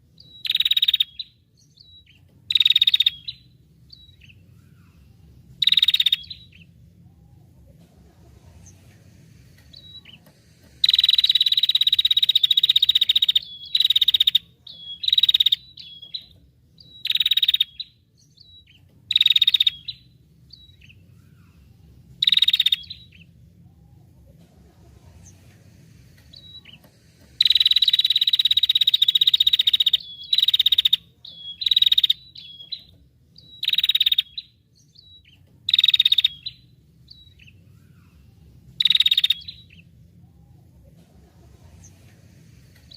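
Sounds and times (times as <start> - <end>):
songbird buzzy trills: 0.0 - 42.9.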